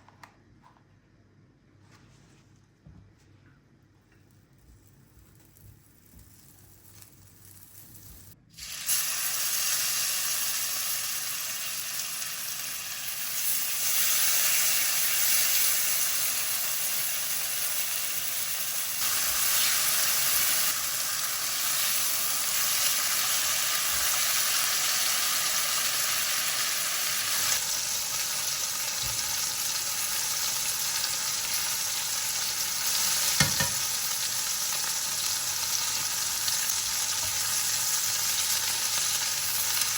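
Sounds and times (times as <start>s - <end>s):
food sizzling in a pan: 6.2s - 39.9s.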